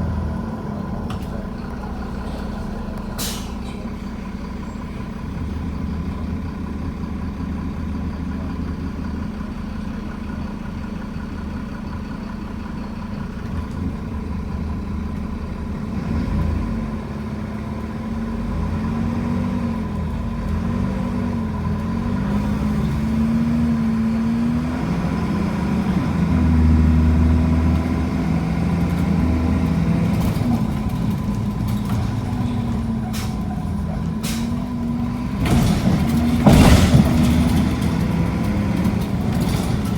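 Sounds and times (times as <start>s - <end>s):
diesel bus engine: 0.0s - 39.9s.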